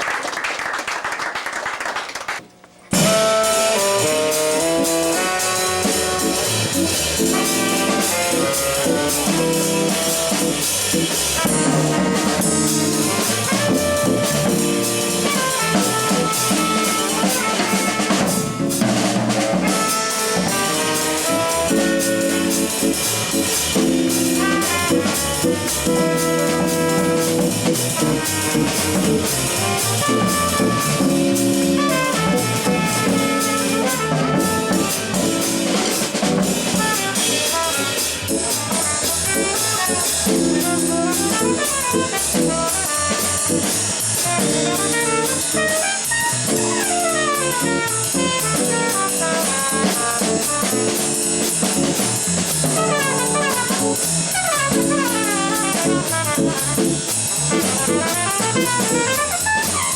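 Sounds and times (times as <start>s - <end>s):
room noise: 0.0s - 59.9s
drum kit with rimshots: 2.4s - 59.9s
trumpet melody: 2.9s - 59.9s
tenor saxophone: 3.0s - 51.5s, 52.7s - 59.9s.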